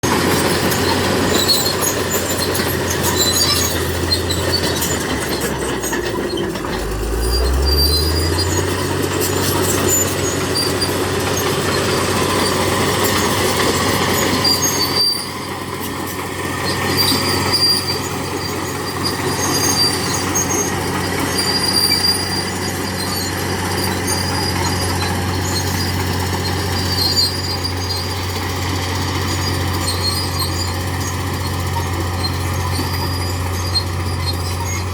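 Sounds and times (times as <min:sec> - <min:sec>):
bulldozer diesel engine: 0:00.0 - 0:34.9
steel tracks squealing and clanking: 0:00.0 - 0:34.9.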